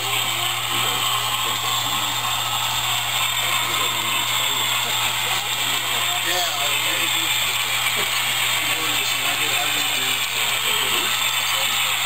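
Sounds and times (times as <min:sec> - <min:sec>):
model train whirring and clattering: 0:00.0 - 0:12.0.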